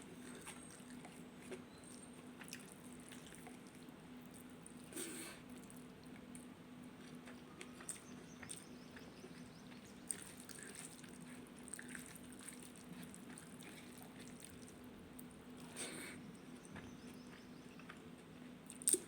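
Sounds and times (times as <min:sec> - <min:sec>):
wet chewing and mouth clicks: 0:00.0 - 0:15.8, 0:16.6 - 0:19.0.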